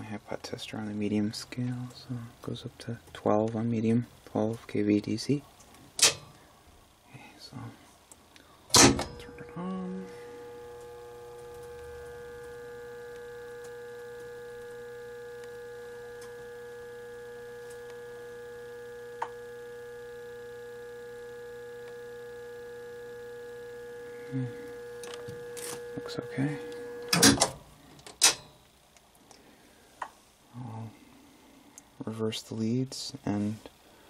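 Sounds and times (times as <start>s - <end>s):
electrical tester humming: 0.0s - 34.0s.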